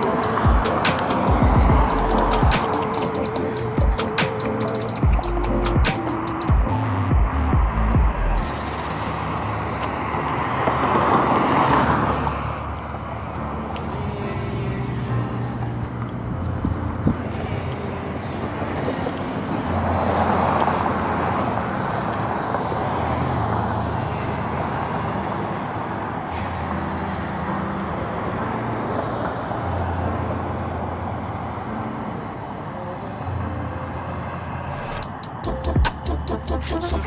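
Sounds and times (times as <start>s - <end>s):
road traffic noise: 0.0s - 37.0s
vehicle passing: 0.0s - 37.0s.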